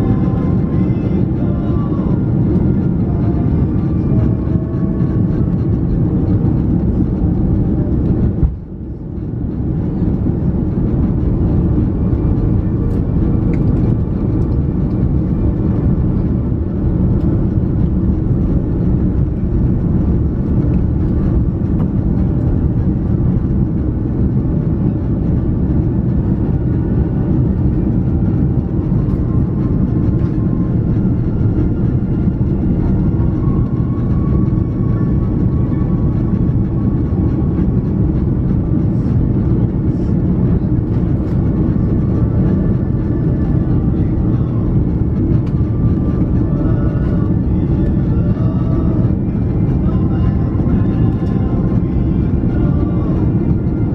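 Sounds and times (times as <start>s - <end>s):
aircraft cabin engine rumble: 0.0s - 53.9s.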